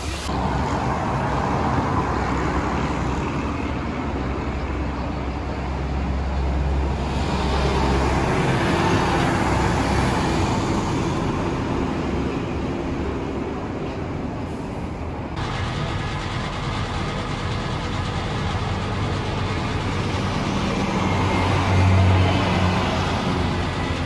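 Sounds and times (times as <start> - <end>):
motor vehicle rumble: 0.0 - 24.0.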